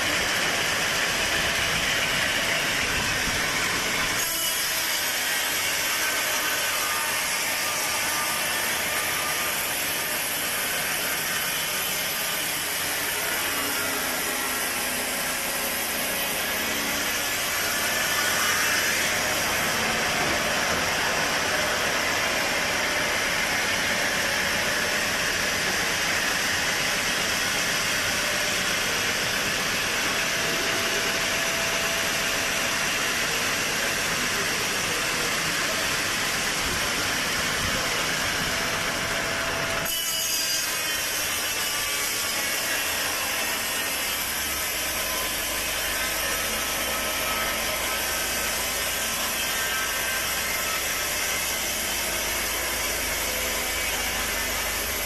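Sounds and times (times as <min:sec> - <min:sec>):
steady machine hum: 0:00.0 - 0:39.9, 0:40.7 - 0:55.0
sawmill blade cutting log: 0:00.0 - 0:55.0.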